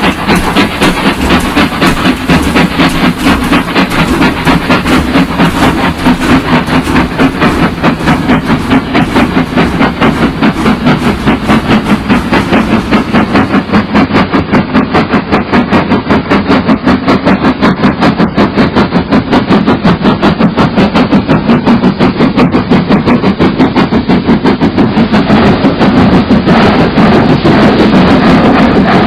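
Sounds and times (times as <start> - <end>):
train running rhythmically: 0.0 - 29.0.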